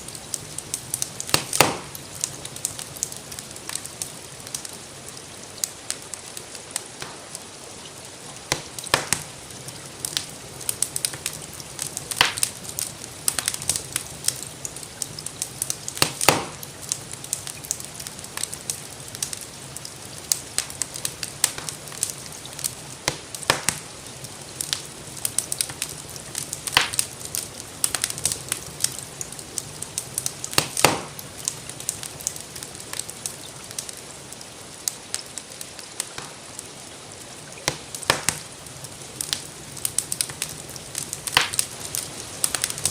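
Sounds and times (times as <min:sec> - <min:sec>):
light rain: 0:00.0 - 0:42.9
wood fire crackling: 0:00.0 - 0:42.9.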